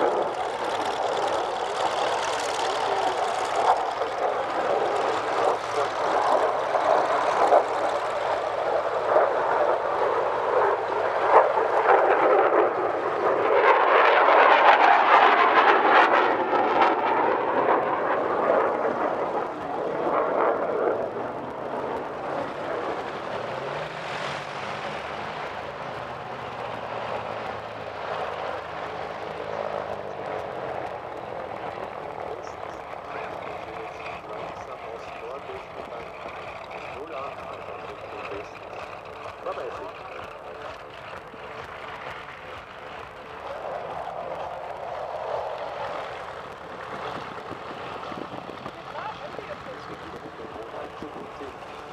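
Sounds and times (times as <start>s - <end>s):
radial aircraft engine roaring: 0.0s - 51.9s
twin piston engines running: 0.0s - 51.9s.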